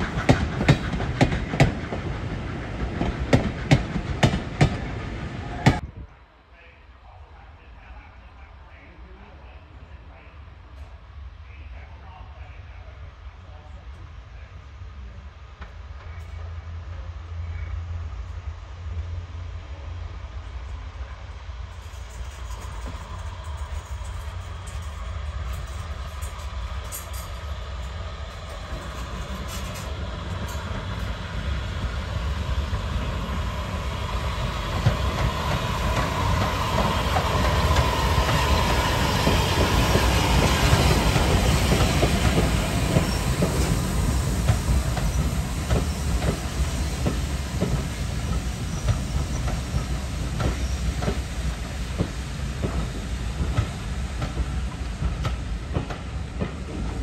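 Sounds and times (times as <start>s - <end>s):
steam train passing: 0.0s - 57.0s.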